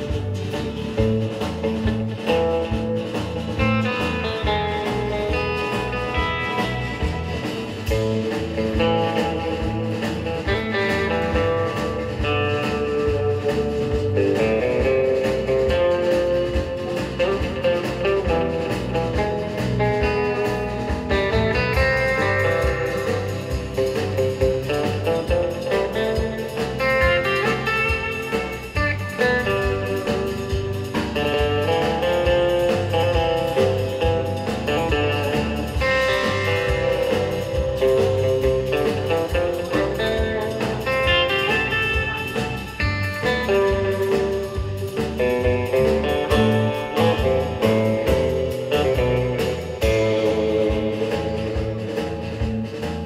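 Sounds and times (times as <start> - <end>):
bass guitar: 0.0 - 53.0
electric guitar lead: 0.0 - 53.0
steady drum beat: 0.0 - 53.0.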